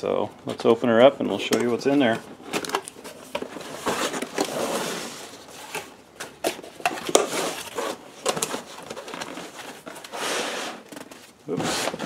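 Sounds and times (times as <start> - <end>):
cardboard flaps rustling and scraping: 0.6 - 12.0.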